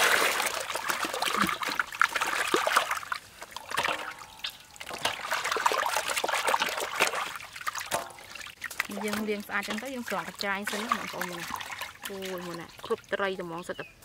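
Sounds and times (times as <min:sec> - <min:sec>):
water pouring into steel basin: 0:00.0 - 0:13.0
water splashing and sloshing: 0:00.0 - 0:14.0.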